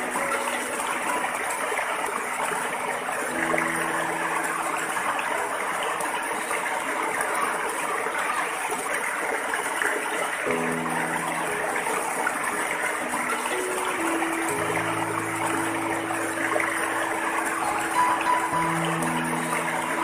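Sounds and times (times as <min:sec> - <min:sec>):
water splashing over stone ledge: 0:00.0 - 0:20.0.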